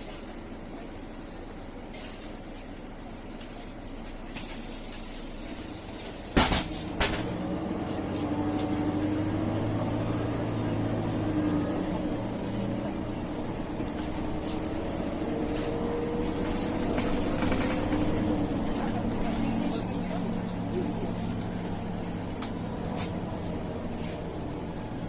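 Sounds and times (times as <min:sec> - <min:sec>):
bus engine running under load: 0:00.0 - 0:25.0.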